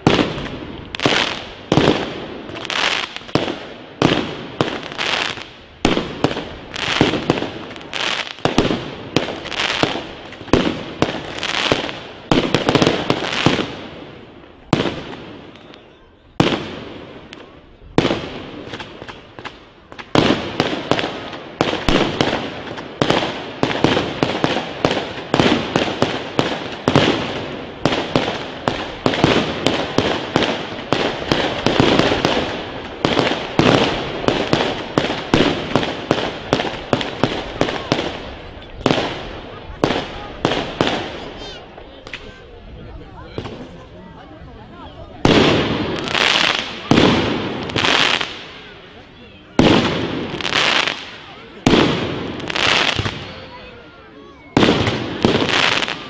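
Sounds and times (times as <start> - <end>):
fireworks bursting: 0.0 - 44.3, 44.9 - 56.0.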